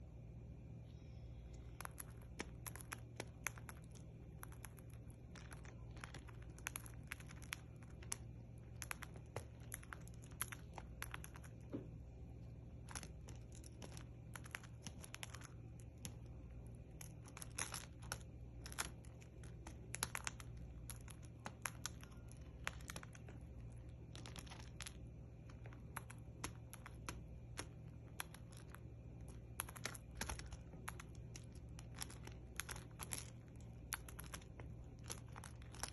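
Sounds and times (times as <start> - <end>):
faint low hum: 0.0 - 35.9.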